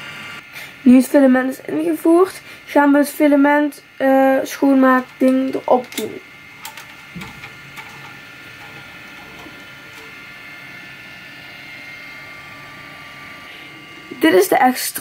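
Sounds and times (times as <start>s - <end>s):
printer whine: 0.0s - 15.0s.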